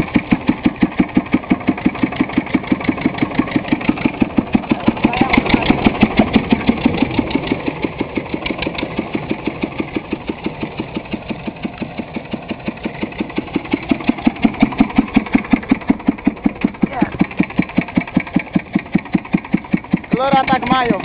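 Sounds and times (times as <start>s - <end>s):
small tractor engine chugging: 0.0s - 21.0s.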